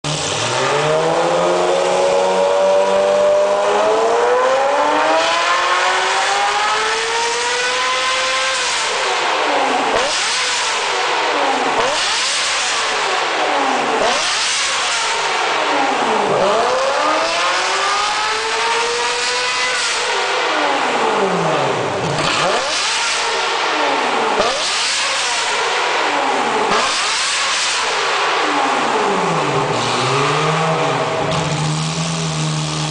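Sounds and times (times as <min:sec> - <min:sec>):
car engine revving: 0:00.0 - 0:32.9.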